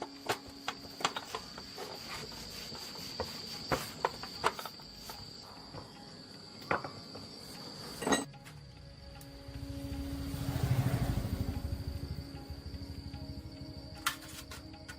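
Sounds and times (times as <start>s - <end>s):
high-pitched insect trill: 0.0s - 14.9s.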